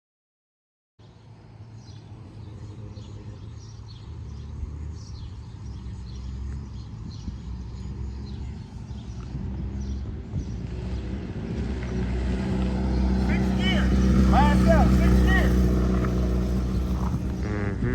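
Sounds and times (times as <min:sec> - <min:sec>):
birds chirping: 0:01.0 - 0:17.8
motorcycle engine rumbling: 0:02.6 - 0:17.9.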